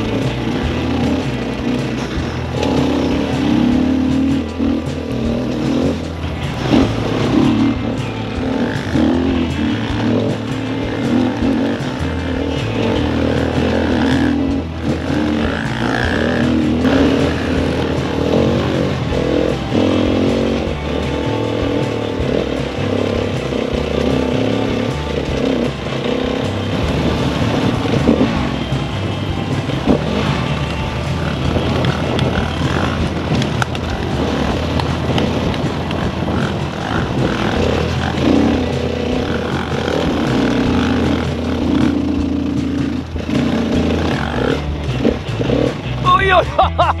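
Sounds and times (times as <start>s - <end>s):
background music with bass line: 0.0s - 47.0s
dirt bike engine revving: 0.0s - 47.0s.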